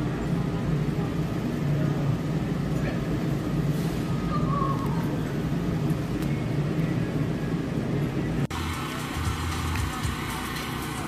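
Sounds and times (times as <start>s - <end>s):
store background hum: 0.0s - 11.0s.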